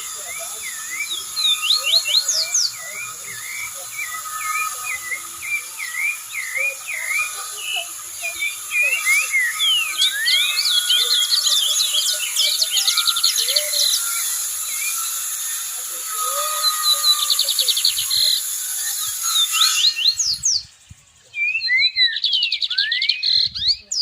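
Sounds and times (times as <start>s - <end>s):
high-pitched insect drone: 0.0s - 22.0s
high bird chirps: 0.0s - 24.0s.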